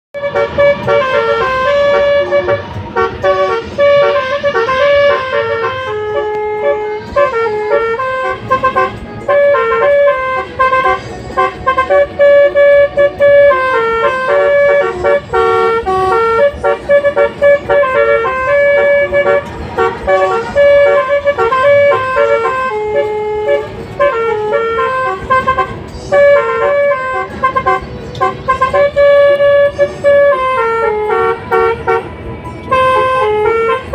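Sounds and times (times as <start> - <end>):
bus musical horn tune: 0.1 - 33.9.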